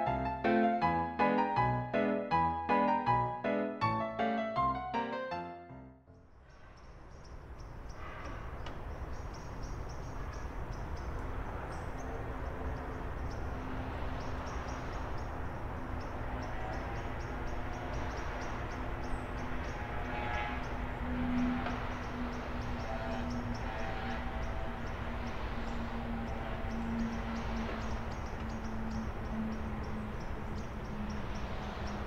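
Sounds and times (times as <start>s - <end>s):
distant traffic rumble: 6.1s - 32.0s.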